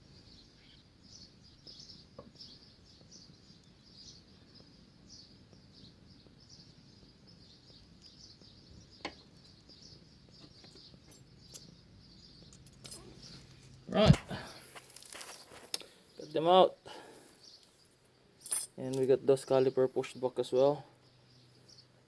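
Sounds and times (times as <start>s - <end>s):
faint bird chirps: 0.0s - 18.5s.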